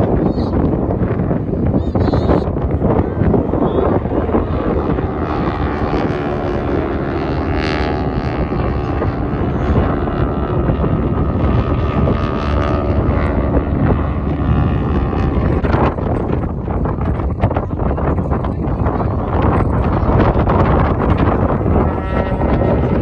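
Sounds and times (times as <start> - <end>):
propeller airplane drone: 0.0 - 23.0
wind rumble on microphone: 0.0 - 23.0.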